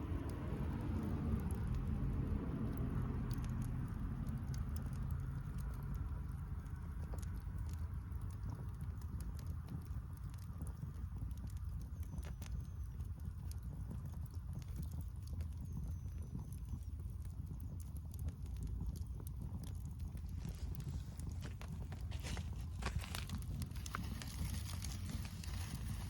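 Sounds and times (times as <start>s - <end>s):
bonfire crackling and popping: 0.0s - 26.0s
low fire rumble: 0.0s - 26.0s.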